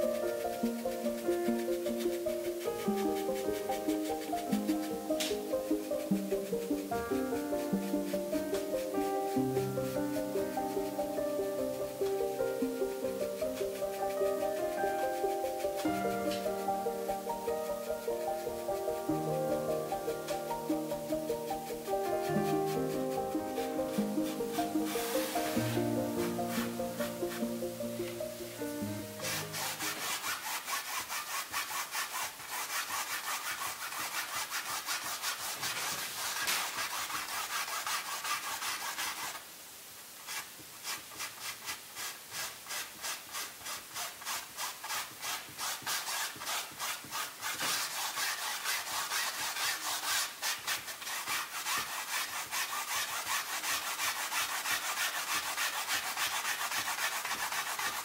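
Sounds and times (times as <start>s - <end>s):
cotton swab scrubbing canvas: 0.0s - 39.4s, 40.3s - 58.0s.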